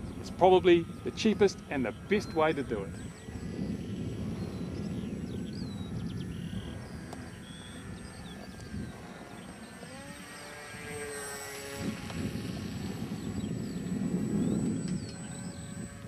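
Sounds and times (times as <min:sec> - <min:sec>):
electric motor and propeller whine: 0:00.0 - 0:16.0
wind rumble on microphone: 0:00.0 - 0:16.0.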